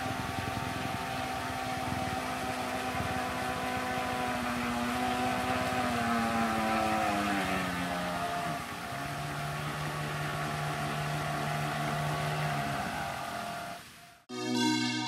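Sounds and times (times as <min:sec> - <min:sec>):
electric motor whine: 0:00.0 - 0:14.2.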